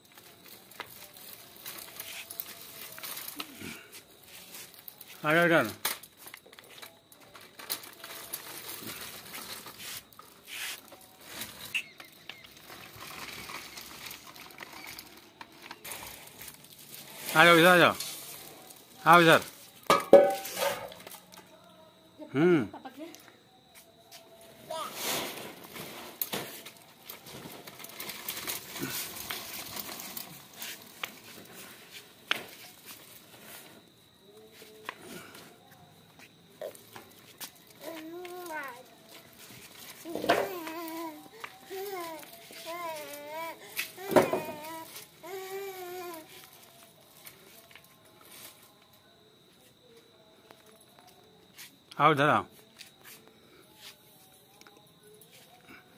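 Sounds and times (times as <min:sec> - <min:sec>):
plastic wheels rolling on concrete: 0:00.0 - 0:21.7, 0:24.1 - 0:55.8.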